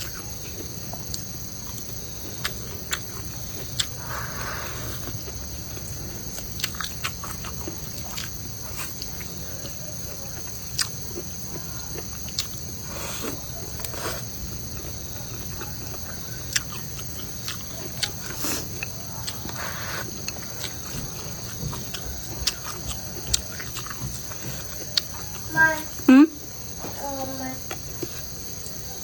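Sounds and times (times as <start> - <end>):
insect chirring: 0.0 - 29.0.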